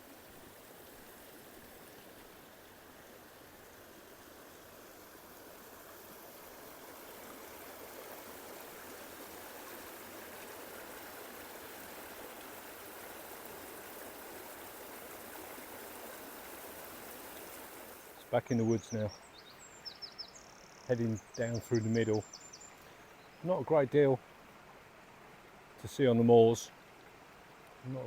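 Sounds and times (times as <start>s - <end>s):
running water rushing: 0.0s - 19.9s, 20.9s - 28.0s.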